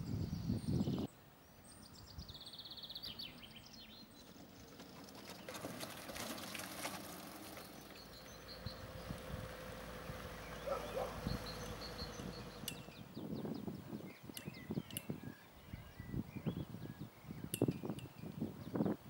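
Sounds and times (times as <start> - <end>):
small birds singing: 0.0 - 19.0.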